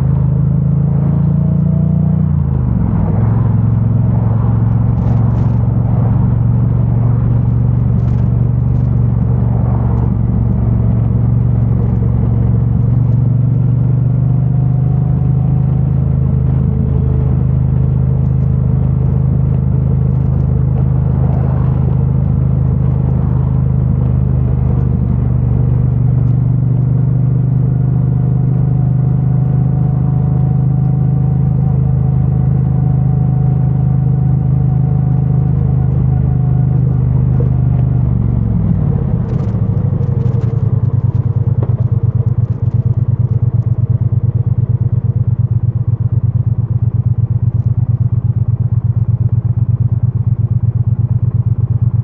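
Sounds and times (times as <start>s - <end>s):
muffled motorcycle engine: 0.0s - 52.0s.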